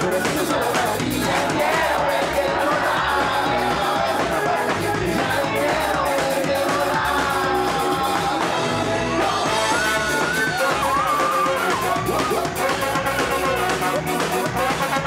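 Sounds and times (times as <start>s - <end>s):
person singing: 0.0s - 14.4s
ska band playing: 0.0s - 15.0s.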